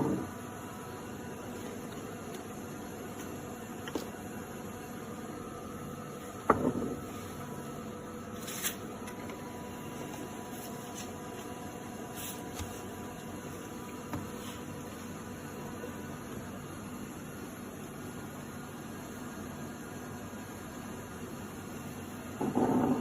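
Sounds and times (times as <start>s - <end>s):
machine hum and hiss: 0.0s - 23.0s.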